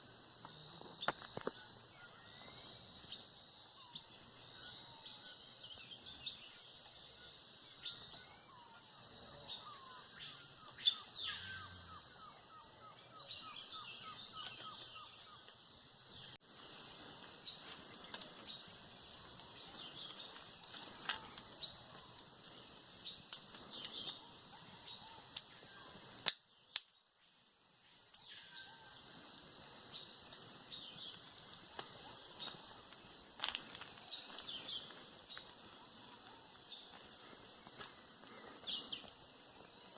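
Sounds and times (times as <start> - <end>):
insects droning: 0.0 - 39.9
birds calling: 1.0 - 26.1, 30.3 - 39.9.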